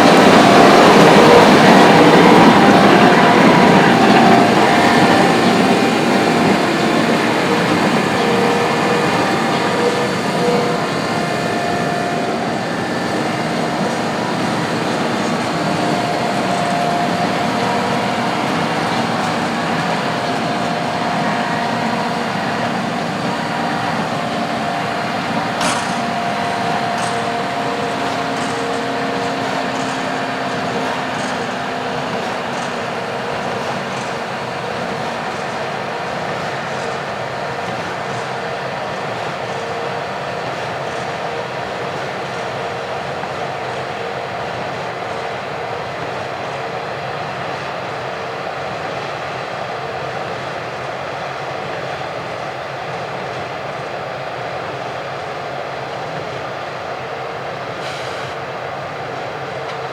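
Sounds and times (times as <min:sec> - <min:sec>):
heavy farm machinery running: 0:00.0 - 0:59.9
machinery whining: 0:00.0 - 0:59.9.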